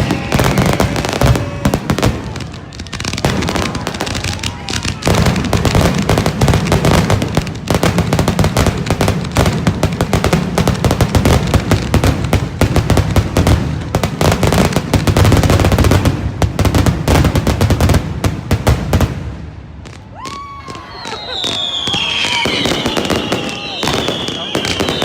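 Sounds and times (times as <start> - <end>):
fireworks cracks and bangs: 0.0 - 25.0.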